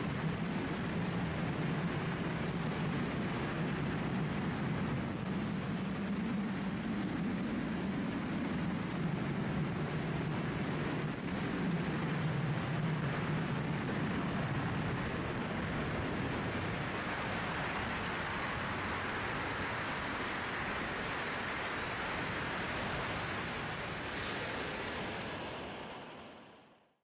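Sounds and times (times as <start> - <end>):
wind rushing over microphone: 0.0 - 26.4.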